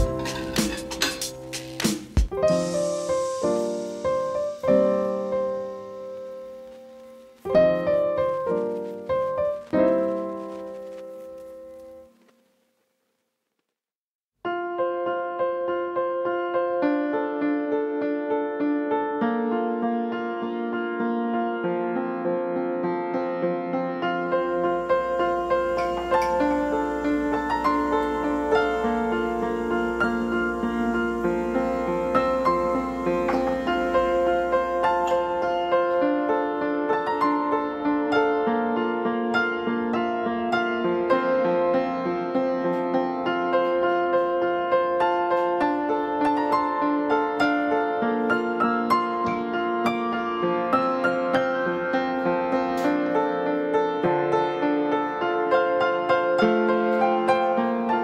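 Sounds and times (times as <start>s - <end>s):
piano chords ringing: 0.0s - 12.2s, 14.5s - 58.0s.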